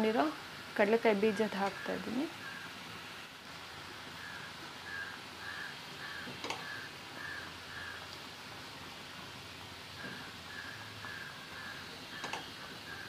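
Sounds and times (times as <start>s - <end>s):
syrup boiling hiss: 0.0s - 13.0s.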